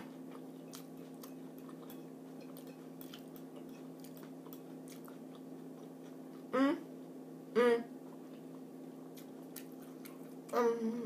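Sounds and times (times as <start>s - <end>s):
person chewing: 0.0s - 6.5s, 7.9s - 10.6s
steady low hum: 0.0s - 11.0s.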